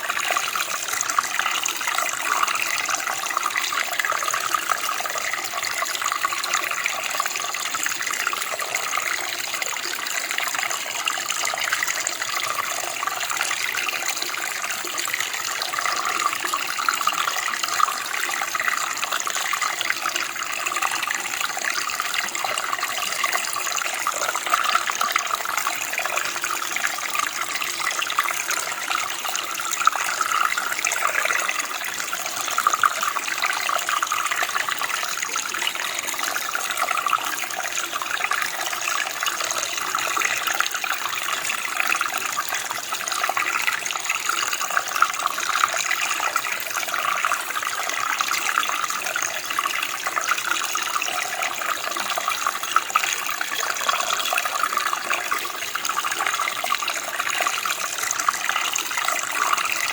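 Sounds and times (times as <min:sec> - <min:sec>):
stream water flowing and splashing: 0:00.0 - 0:59.9.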